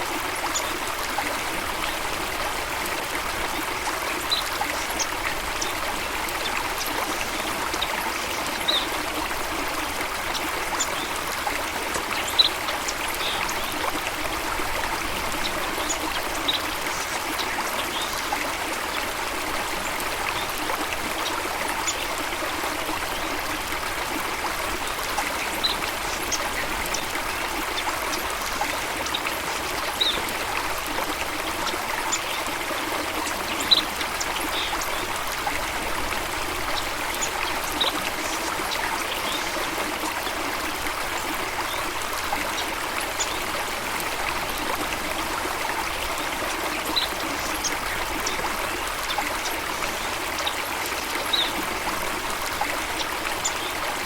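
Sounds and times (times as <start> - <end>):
water flowing and trickling: 0.0 - 54.0.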